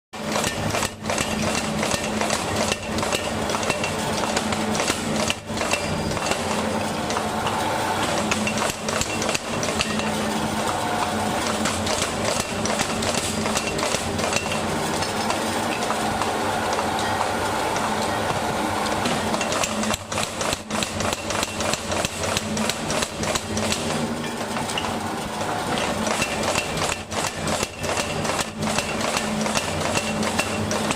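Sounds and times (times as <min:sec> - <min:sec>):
power hammer pounding metal: 0:00.2 - 0:30.9.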